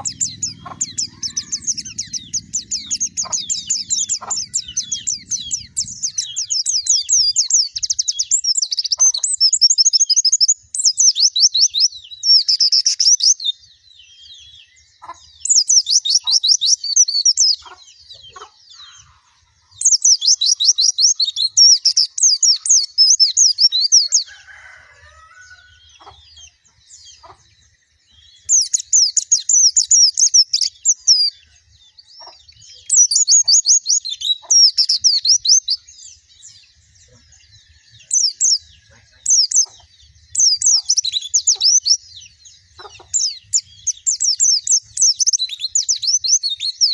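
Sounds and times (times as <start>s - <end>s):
bird twittering trills: 0.0s - 46.9s.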